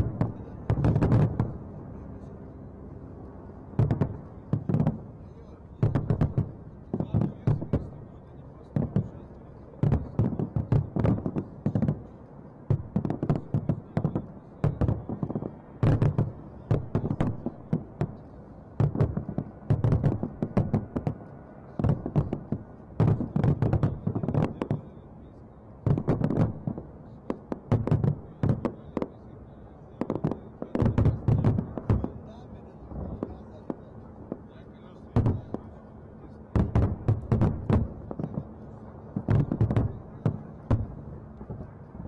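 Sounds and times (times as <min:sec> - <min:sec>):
fireworks bangs: 0:00.0 - 0:01.6, 0:03.8 - 0:05.1, 0:05.8 - 0:12.1, 0:12.7 - 0:24.9, 0:25.8 - 0:29.2, 0:29.9 - 0:35.8, 0:36.5 - 0:42.0.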